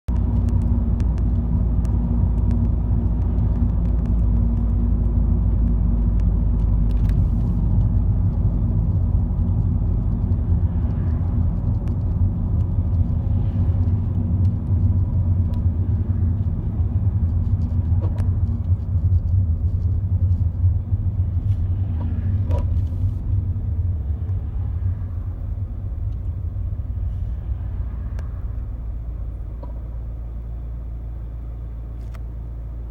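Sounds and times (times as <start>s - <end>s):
car engine and road rumble: 0.0s - 32.9s.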